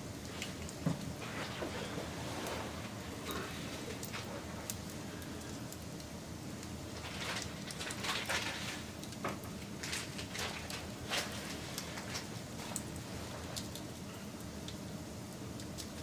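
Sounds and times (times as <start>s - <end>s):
rush of flame: 0.0s - 14.4s
fire crackling and popping: 0.0s - 16.0s.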